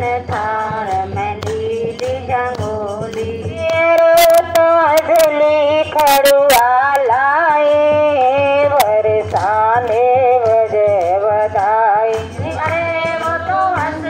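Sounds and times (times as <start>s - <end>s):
devotional singing: 0.0s - 14.0s
sharp percussive strikes: 0.0s - 14.0s.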